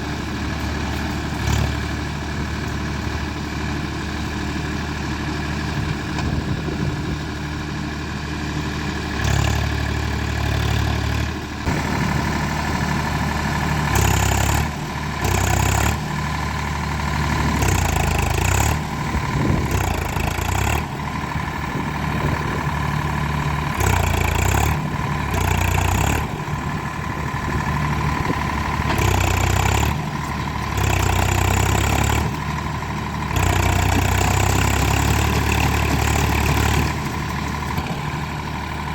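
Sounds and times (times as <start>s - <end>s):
diesel tractor engines revving: 0.0s - 38.9s.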